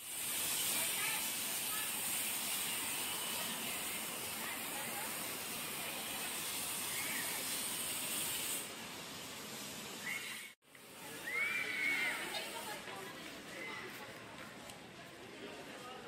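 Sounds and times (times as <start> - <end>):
steady ambient hiss: 0.0 - 13.6.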